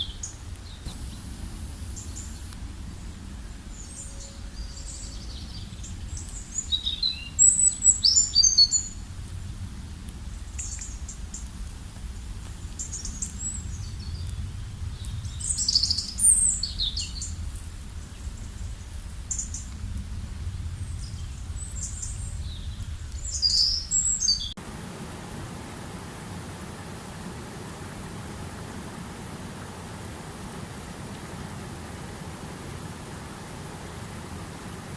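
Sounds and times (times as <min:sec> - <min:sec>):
low steady rumble: 0:00.0 - 0:34.9
songbirds chirping and trilling: 0:00.0 - 0:34.9
steady rushing noise: 0:00.0 - 0:34.9.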